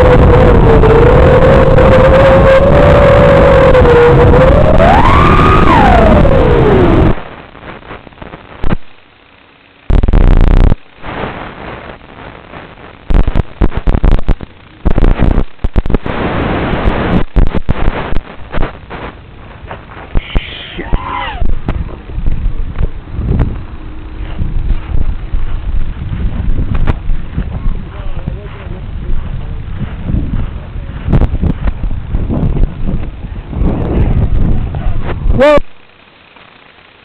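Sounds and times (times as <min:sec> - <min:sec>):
crackling radio static: 0:00.0 - 0:37.0
drone propellers whining: 0:00.0 - 0:37.0.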